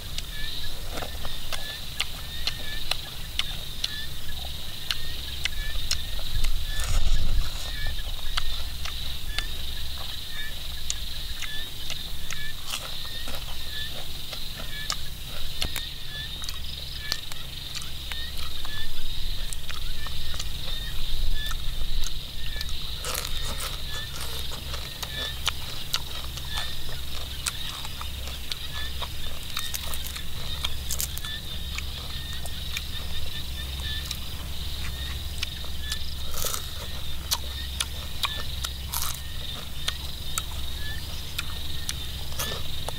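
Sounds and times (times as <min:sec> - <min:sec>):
crunching and chewing: 0:00.0 - 0:42.9
high-pitched animal calls: 0:00.0 - 0:42.9.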